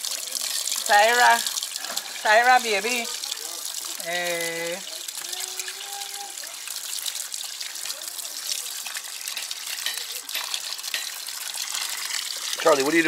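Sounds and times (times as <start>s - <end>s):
tap water pouring into basin: 0.0s - 13.0s.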